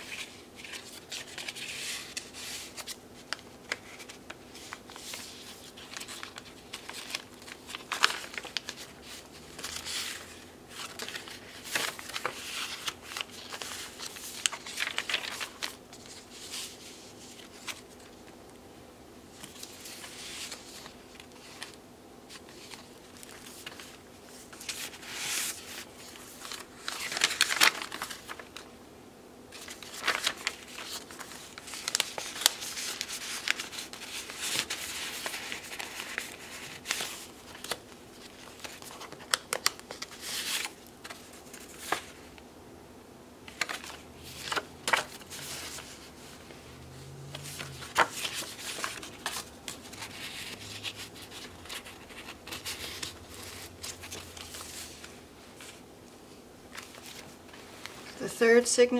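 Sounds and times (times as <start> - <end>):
paper rustling and crinkling: 0.0 - 18.4, 19.3 - 28.7, 29.5 - 42.4, 43.4 - 58.3.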